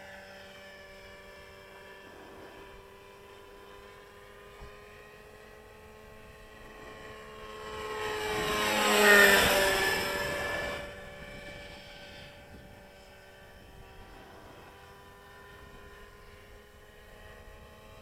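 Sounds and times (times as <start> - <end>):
model helicopter engine and rotors: 0.0 - 18.0.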